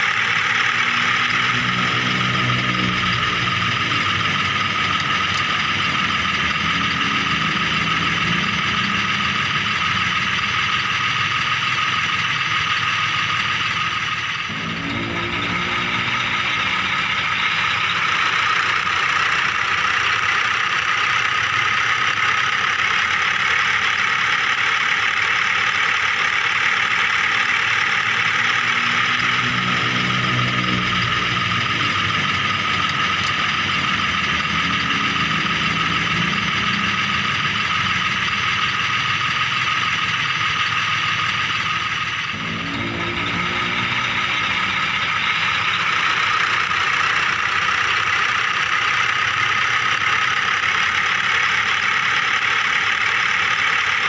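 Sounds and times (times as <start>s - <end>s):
toy vehicle mechanical whir: 0.0s - 54.0s.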